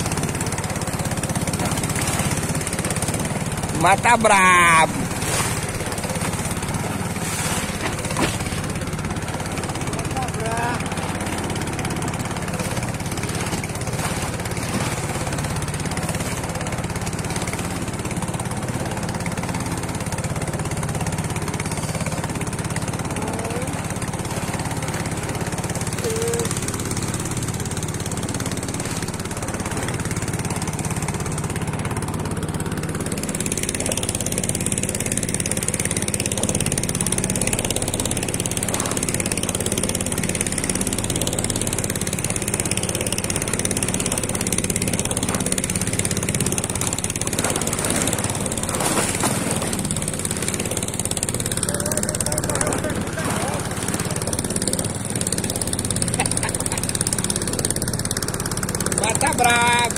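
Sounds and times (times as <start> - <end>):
boat motor running: 0.0 - 59.9
water rushing along hull: 0.0 - 59.9.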